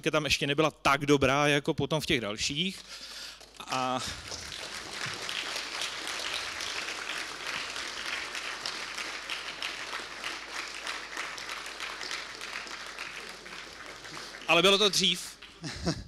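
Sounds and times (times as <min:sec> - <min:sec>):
audience applauding: 0:02.8 - 0:16.0.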